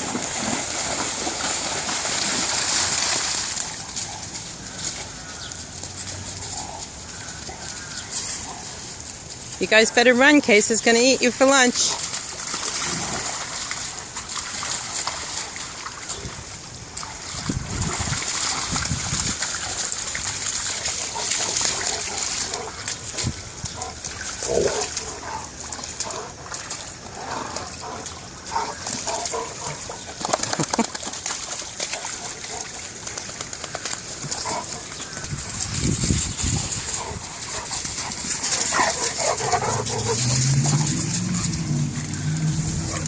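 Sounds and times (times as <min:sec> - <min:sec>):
water splashing and sloshing: 0:00.0 - 0:43.0.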